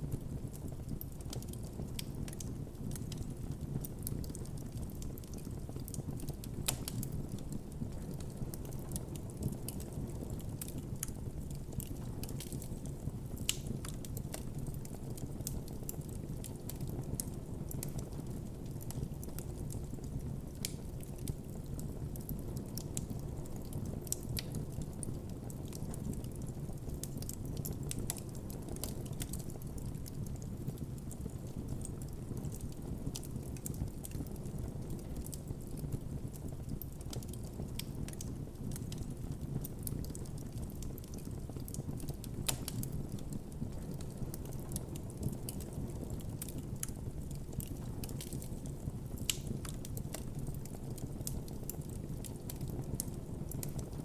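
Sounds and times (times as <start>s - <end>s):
burning wood crackling and popping: 0.0s - 54.0s
campfire flames rumbling: 0.0s - 54.0s.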